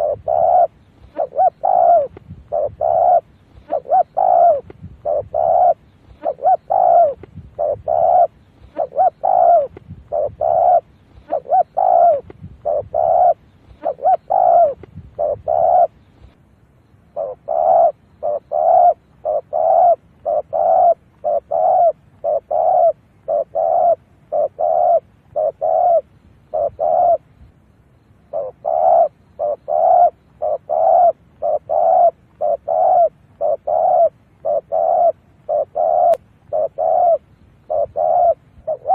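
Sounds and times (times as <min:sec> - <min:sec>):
dove cooing: 0:00.0 - 0:16.4, 0:17.1 - 0:27.5, 0:28.2 - 0:38.9.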